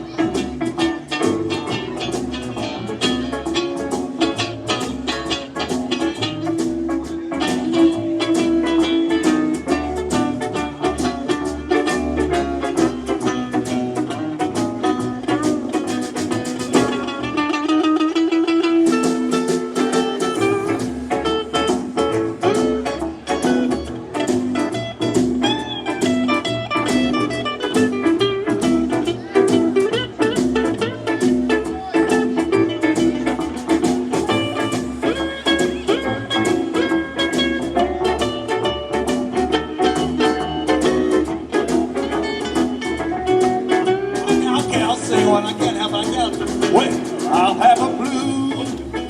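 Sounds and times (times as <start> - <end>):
bass: 0.0 - 49.0
plucked string melody: 0.0 - 49.0
strummed acoustic guitars: 0.0 - 49.0.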